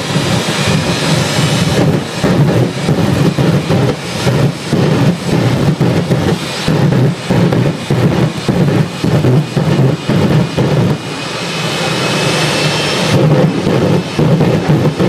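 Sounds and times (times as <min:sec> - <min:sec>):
jet turbine engine roaring: 0:00.0 - 0:15.0.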